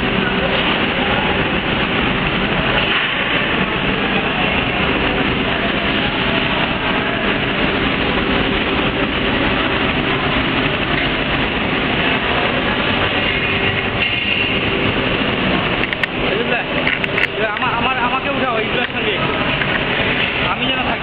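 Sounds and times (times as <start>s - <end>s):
production line machinery running: 0.0s - 21.0s.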